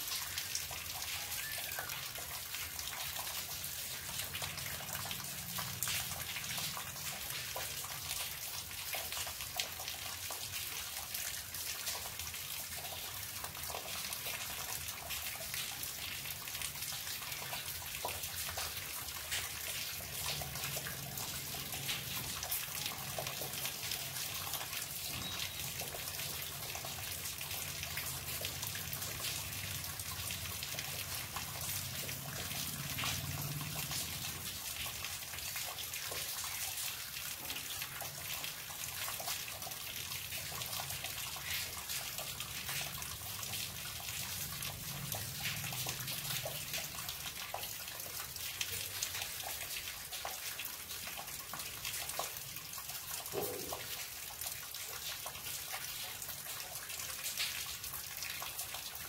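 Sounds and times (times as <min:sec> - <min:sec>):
rainwater splashing onto wet ground: 0:00.0 - 0:59.0.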